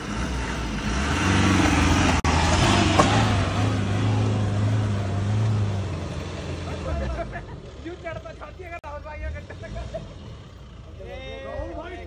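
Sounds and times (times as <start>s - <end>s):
diesel engine pulling hard: 0.0s - 12.0s.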